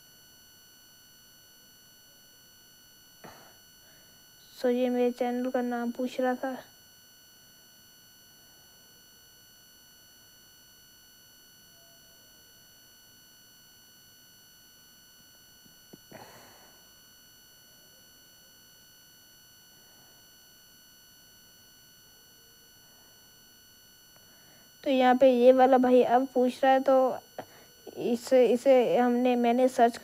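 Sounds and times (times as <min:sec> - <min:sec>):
high-pitched electronic whine: 0:00.0 - 0:30.0.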